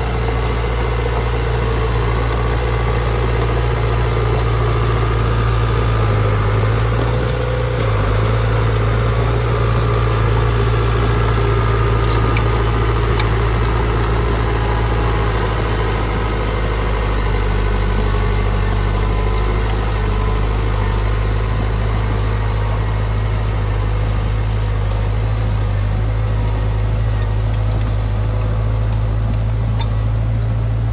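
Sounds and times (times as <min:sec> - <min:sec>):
engine idling: 0:00.0 - 0:30.9.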